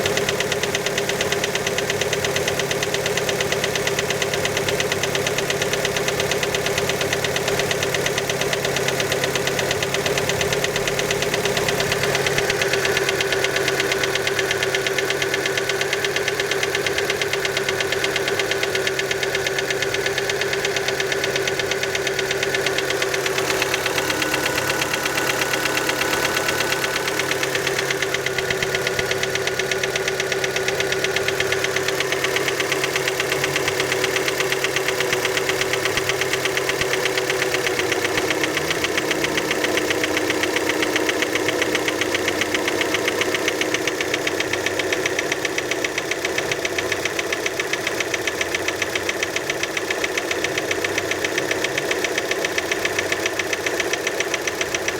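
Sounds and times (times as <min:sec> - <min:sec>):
car engine idling with knock: 0:00.0 - 0:54.9.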